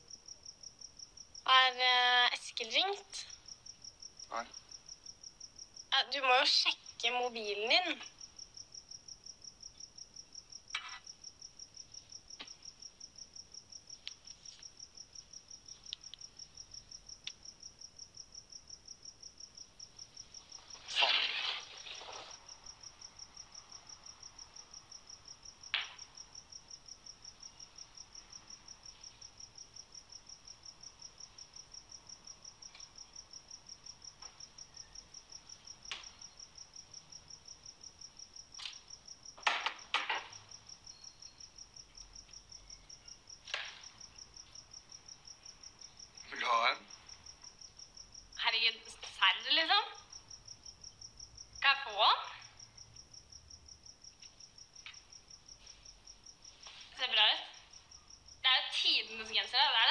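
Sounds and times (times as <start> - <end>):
high-pitched insect chirping: 0.0 - 59.8.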